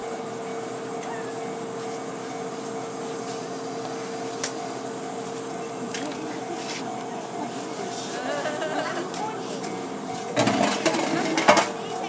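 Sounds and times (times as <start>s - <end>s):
electrical-mechanical hum: 0.0s - 12.0s.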